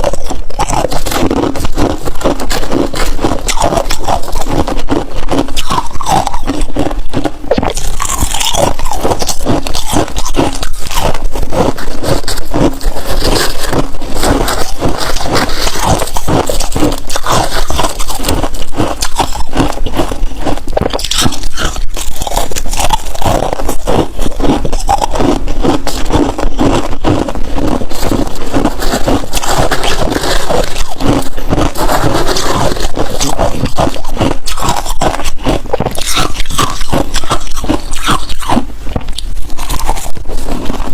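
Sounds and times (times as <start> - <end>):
frost being chewed crunching: 0.0 - 40.9.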